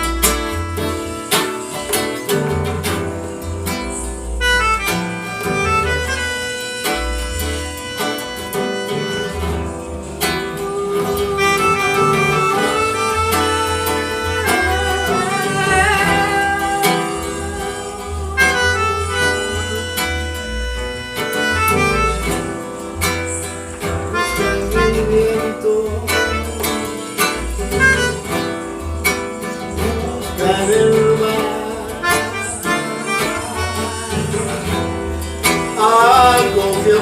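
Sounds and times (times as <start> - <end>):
acoustic ensemble melody: 0.0 - 37.0
steady bass notes: 0.0 - 37.0.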